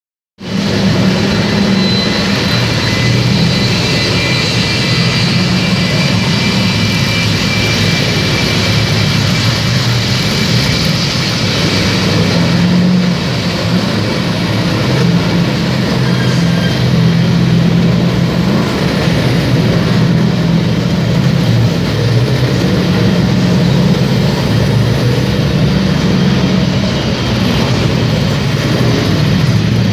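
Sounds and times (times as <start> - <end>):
loud engine drone: 0.4 - 29.9.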